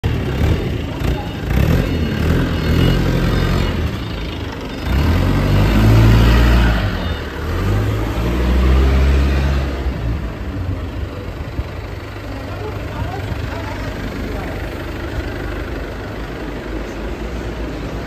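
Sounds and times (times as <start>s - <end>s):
forklift engine revving: 0.0s - 18.0s.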